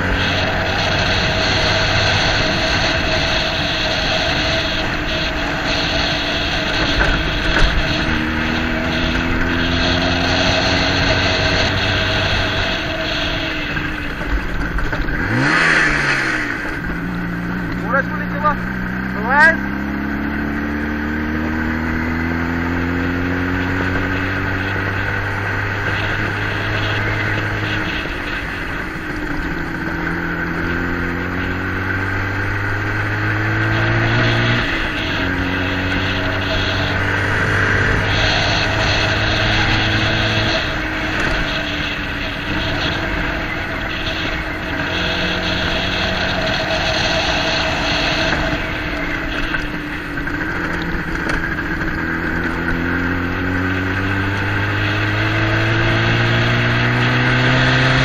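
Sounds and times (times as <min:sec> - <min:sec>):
rattling road noise: 0:00.0 - 0:58.0
vehicle engine revving: 0:00.0 - 0:58.0.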